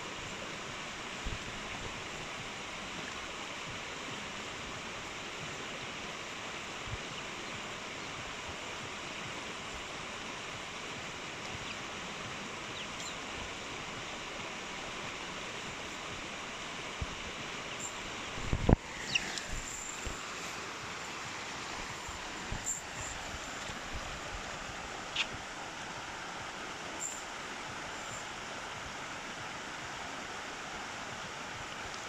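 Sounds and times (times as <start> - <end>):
stream flowing: 0.0 - 32.0.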